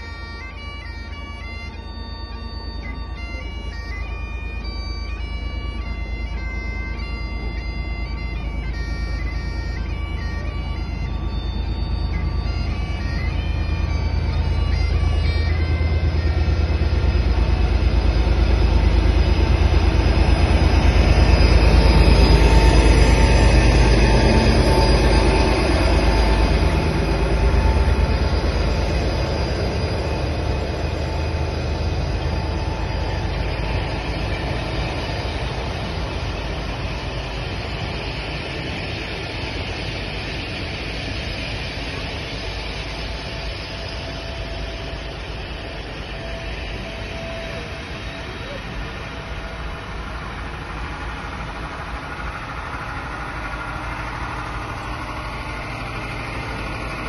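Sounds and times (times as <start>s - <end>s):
diesel locomotive rumble: 0.0s - 57.0s
train wheels rolling: 7.0s - 57.0s.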